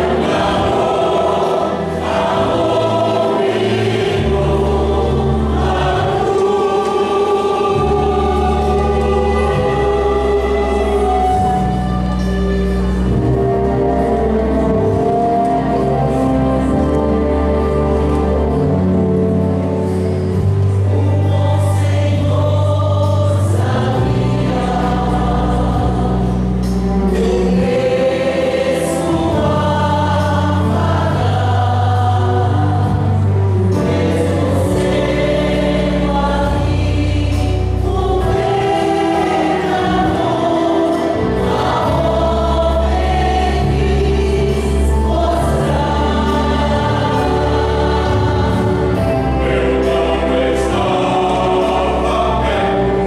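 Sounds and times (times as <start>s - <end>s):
choir singing a hymn: 0.0s - 53.0s
low bass accompaniment notes: 0.0s - 53.0s.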